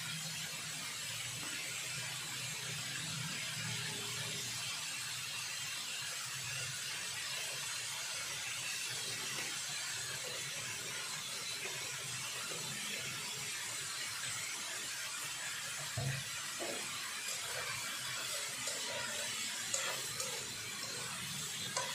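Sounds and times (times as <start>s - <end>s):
vegetables sizzling in frying pan: 0.0s - 21.9s.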